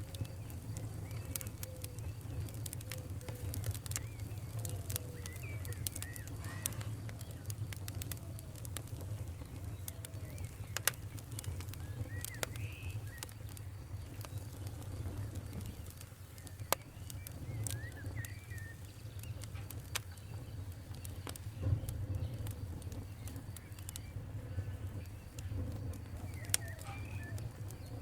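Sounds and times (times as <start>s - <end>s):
low rumble of flames: 0.0s - 28.0s
wood fire crackling and popping: 0.0s - 28.0s.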